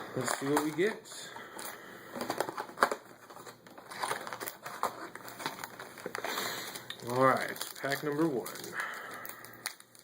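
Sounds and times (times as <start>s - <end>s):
packaging crinkling: 0.1s - 10.0s.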